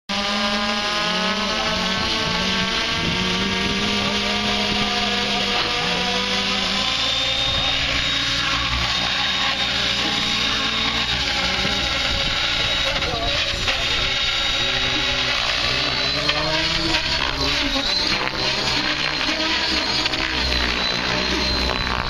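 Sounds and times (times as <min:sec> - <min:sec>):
high motor whine: 0:00.1 - 0:22.0
rc helicopter rotor and motor: 0:00.1 - 0:22.0.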